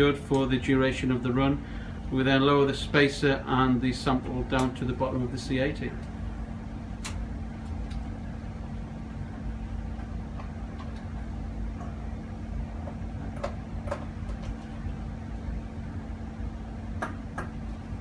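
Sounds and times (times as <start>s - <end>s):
laboratory equipment hum: 0.0s - 18.0s.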